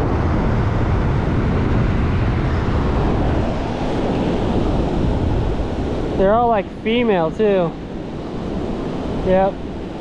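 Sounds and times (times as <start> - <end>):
ocean surf breaking: 0.0 - 10.0
wind buffeting microphone: 0.0 - 10.0.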